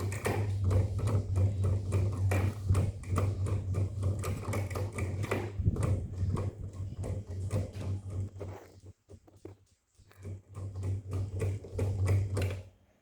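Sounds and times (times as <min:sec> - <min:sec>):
fan motor hum: 0:00.0 - 0:12.8
rapid irregular clicking: 0:00.0 - 0:12.8.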